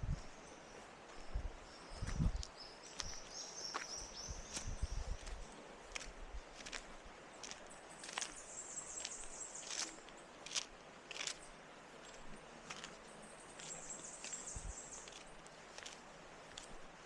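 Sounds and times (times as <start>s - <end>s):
footsteps on a path: 0.0s - 17.0s.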